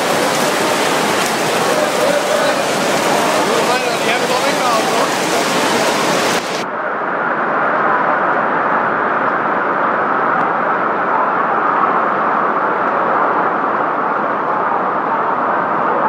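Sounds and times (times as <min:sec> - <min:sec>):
heavy rain on a tent roof: 0:00.0 - 0:16.0
wind: 0:00.0 - 0:16.0.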